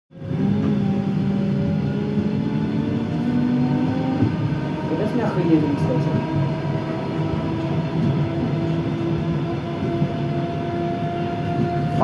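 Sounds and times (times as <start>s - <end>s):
train rumble: 0.1s - 12.0s
constant low hum: 0.2s - 12.0s.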